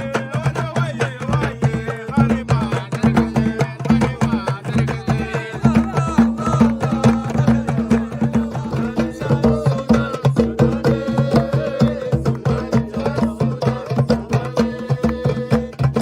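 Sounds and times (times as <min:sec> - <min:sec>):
hand drums beating: 0:00.0 - 0:16.0
voices singing: 0:00.0 - 0:16.0.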